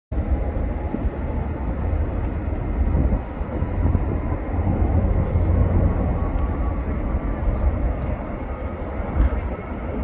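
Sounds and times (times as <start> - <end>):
jet engines rumbling: 0.1 - 10.0.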